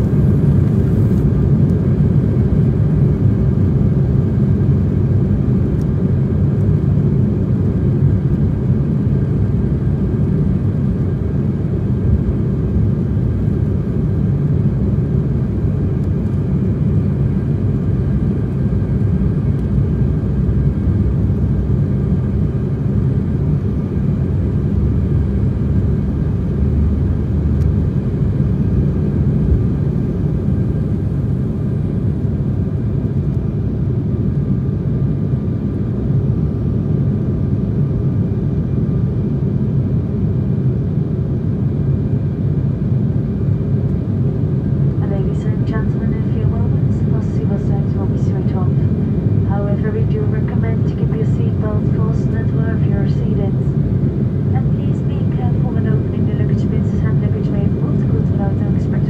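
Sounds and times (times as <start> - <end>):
faint turbofan whine: 0.0 - 59.0
jet airliner cabin rumble: 0.0 - 59.0.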